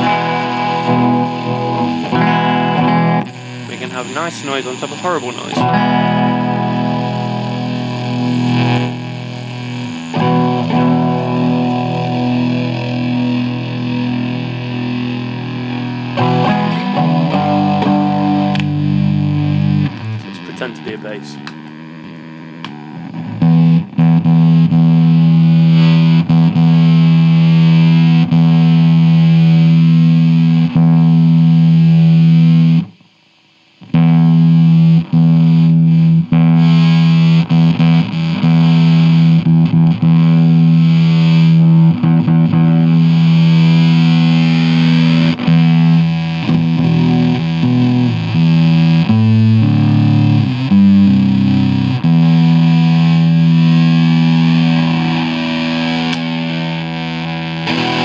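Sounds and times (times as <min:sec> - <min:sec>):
heavily distorted electric guitar: 0:00.0 - 0:58.0.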